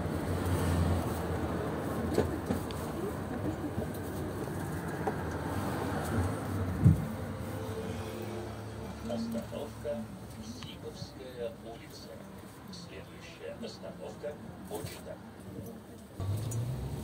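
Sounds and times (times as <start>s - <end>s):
tram rumble and motor hum: 0.0s - 17.0s.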